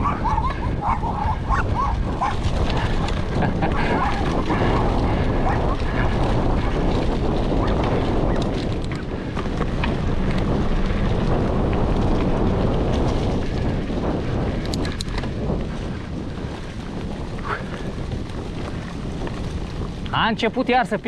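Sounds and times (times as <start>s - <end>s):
bike clicks and rattles: 0.0s - 21.0s
tyre and trail rumble: 0.0s - 21.0s
wind buffeting microphone: 0.0s - 21.0s.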